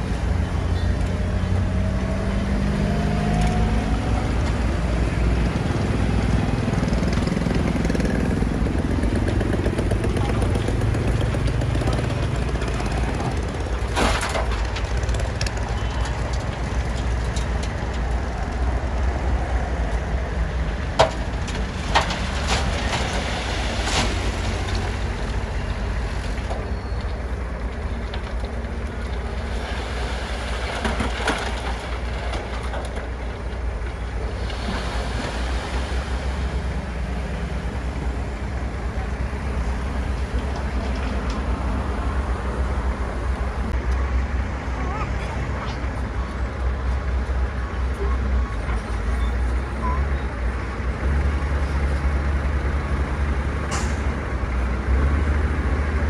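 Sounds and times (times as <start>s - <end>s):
bulldozer engine droning: 0.0s - 56.0s.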